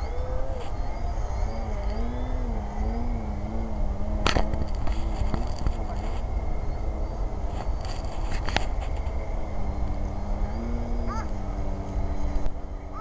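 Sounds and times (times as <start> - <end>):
model airplane motor droning: 0.0 - 13.0.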